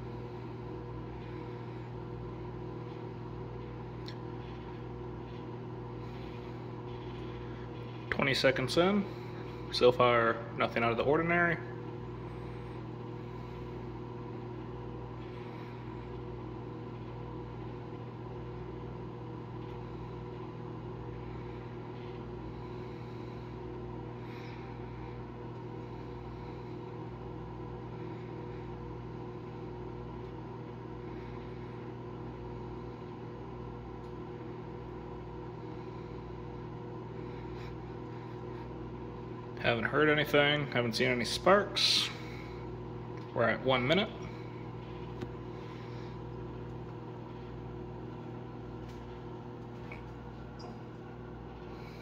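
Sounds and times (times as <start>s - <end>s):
microwave oven humming: 0.0s - 52.0s.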